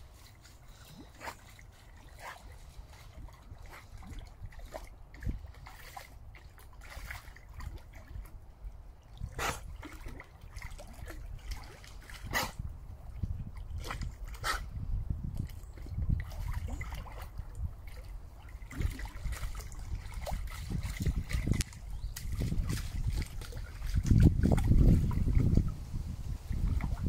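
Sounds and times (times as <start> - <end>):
dog paddling and splashing water: 0.0 - 27.0.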